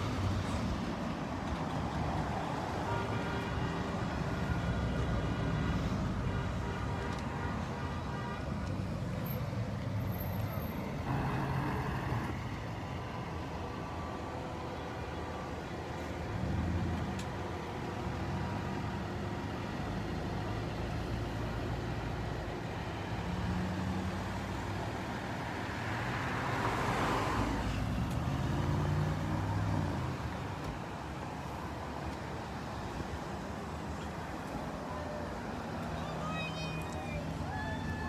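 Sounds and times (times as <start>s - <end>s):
cars and trucks driving past: 0.0s - 38.0s.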